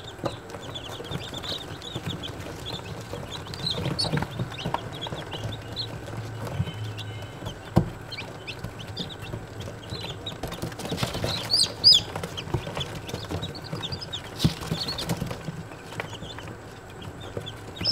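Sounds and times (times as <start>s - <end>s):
chicks peeping: 0.0s - 17.9s.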